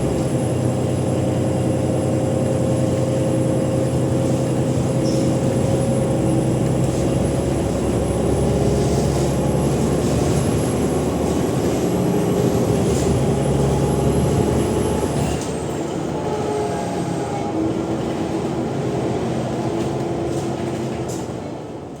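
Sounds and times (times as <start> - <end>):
diesel bus engine revving: 0.0 - 21.0.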